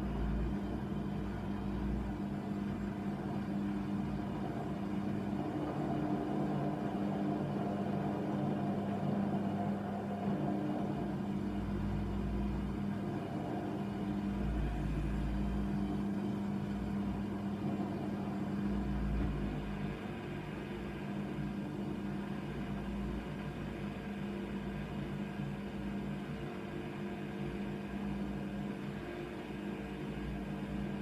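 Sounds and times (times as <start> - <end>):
washing machine motor humming: 0.0 - 31.0.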